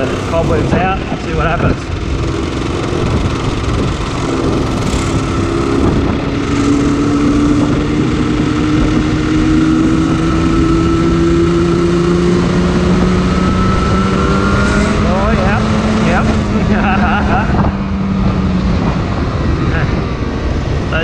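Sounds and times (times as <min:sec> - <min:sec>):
two-stroke motorcycle engine running: 0:00.0 - 0:21.0.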